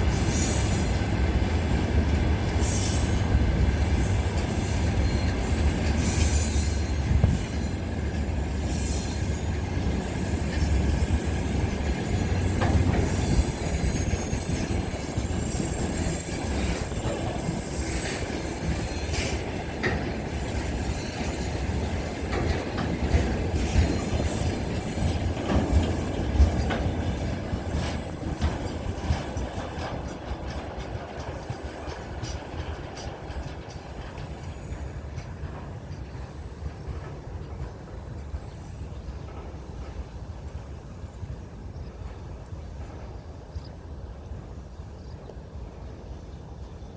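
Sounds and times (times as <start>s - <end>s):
clickety-clack of wheels: 0.0s - 44.4s
train rumbling: 0.0s - 46.9s
wheels squealing on rails: 0.0s - 46.9s.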